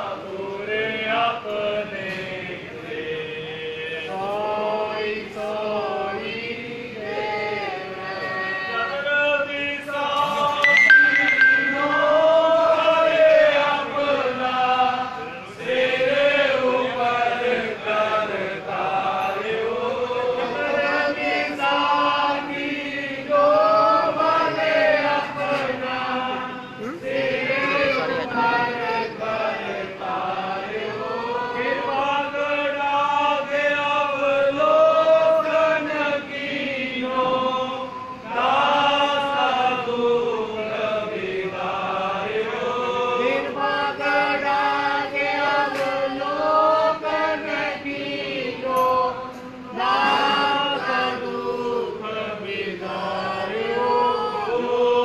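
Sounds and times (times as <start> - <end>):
voices chanting together: 0.0 - 55.0.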